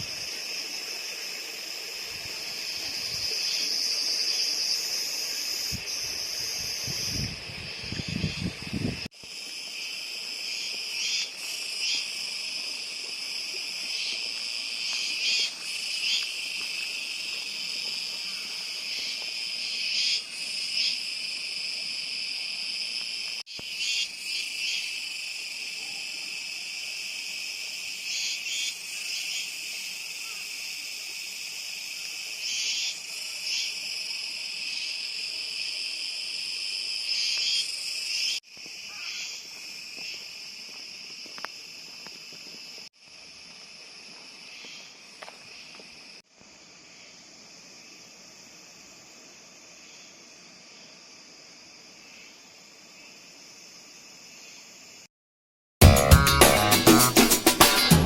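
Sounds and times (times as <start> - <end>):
cicadas buzzing: 0.0 - 55.1.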